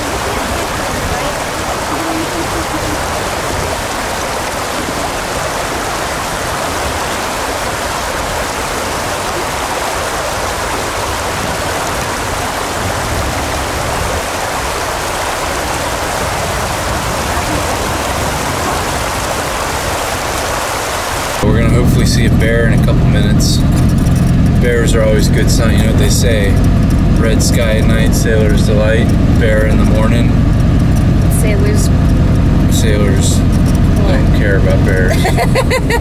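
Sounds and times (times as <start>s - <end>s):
water rushing: 0.0s - 36.0s.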